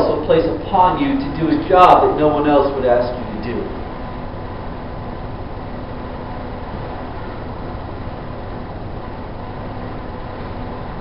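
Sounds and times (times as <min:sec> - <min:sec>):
faint steady hum: 0:00.0 - 0:11.0
low rumble and hiss: 0:00.0 - 0:11.0.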